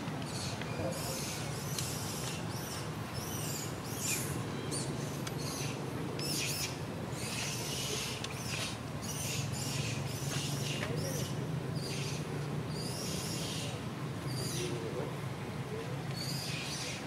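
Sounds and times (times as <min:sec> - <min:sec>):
small animal squeaky chirps: 0:00.3 - 0:14.7, 0:16.2 - 0:17.0.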